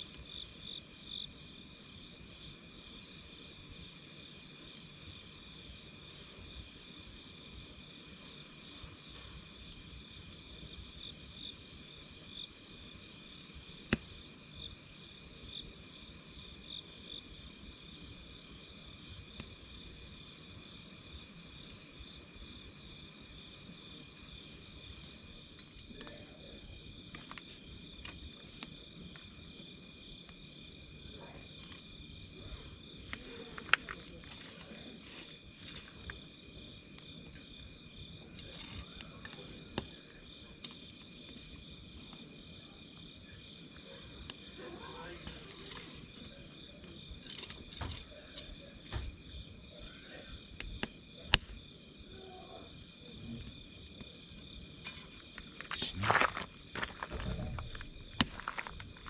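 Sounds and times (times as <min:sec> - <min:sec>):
crickets chirring: 0:00.0 - 0:59.0
wood fire crackling and popping: 0:00.0 - 0:59.0.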